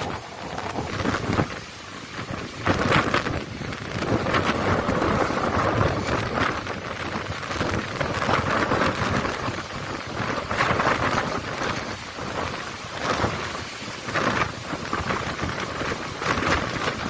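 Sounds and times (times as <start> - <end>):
heavy rain: 0.0 - 17.0
storm waves breaking: 0.0 - 17.0
wind buffeting microphone: 0.0 - 17.0.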